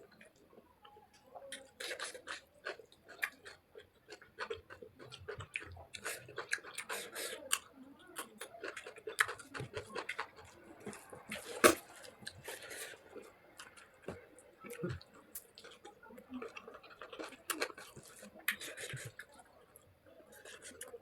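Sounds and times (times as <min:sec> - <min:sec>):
chewing and lip smacks: 0:00.1 - 0:21.0.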